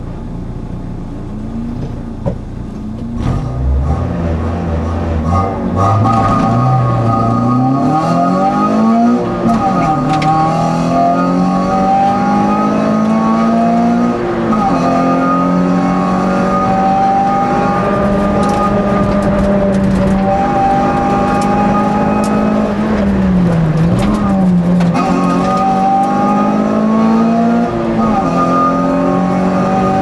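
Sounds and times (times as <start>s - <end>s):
race car engine at high revs: 1.2s - 30.0s.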